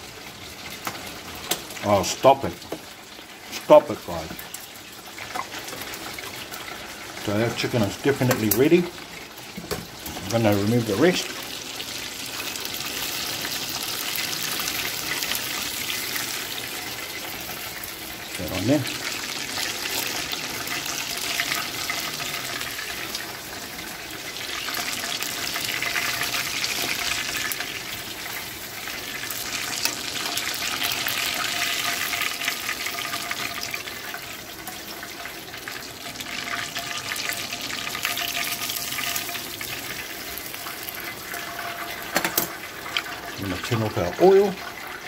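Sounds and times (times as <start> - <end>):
chicken sizzling in frying oil: 0.0 - 45.0.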